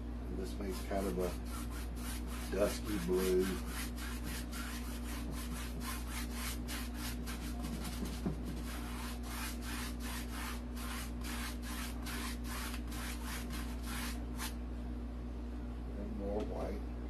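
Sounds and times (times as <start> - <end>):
steady low hum: 0.0 - 17.0
paintbrush stroking canvas: 0.6 - 14.6.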